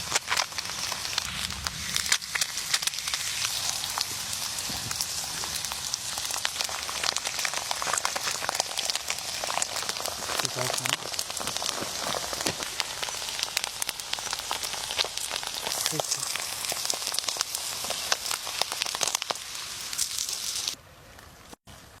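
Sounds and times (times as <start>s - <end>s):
food sizzling in hot oil: 0.0s - 20.8s.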